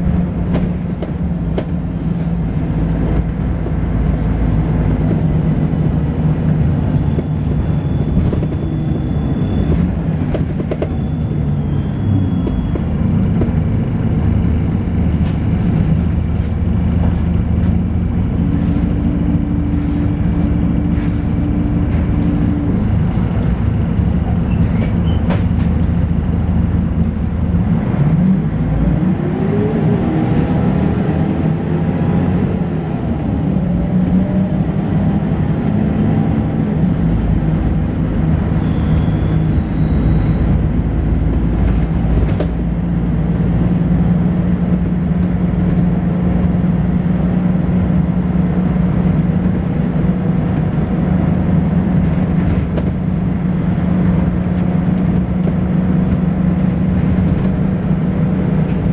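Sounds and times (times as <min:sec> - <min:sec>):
bus engine pulling hard: 0:00.0 - 0:58.9.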